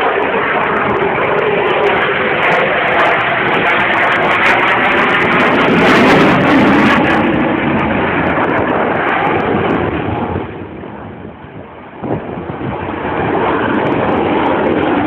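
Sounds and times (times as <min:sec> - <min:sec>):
fighter jet passing: 0:00.0 - 0:15.0.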